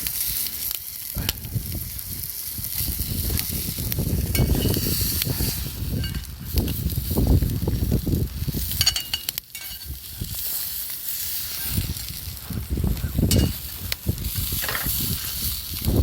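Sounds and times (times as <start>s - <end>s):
campfire crackling: 0.0s - 16.0s
food sizzling: 0.0s - 16.0s.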